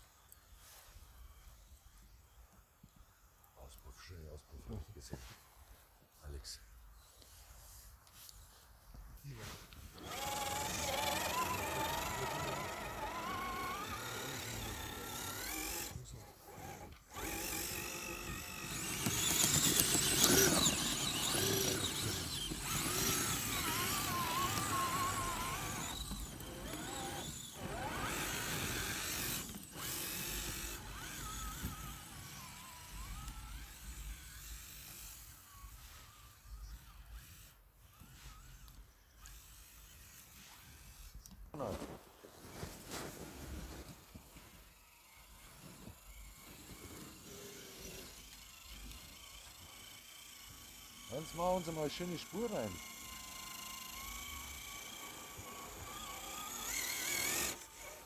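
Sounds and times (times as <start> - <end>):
electric motors whining: 9.7 - 58.0.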